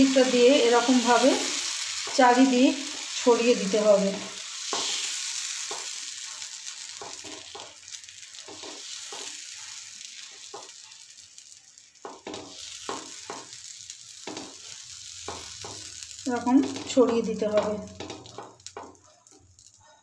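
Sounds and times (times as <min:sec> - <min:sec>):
batter sizzling on a pan: 0:00.0 - 0:20.0.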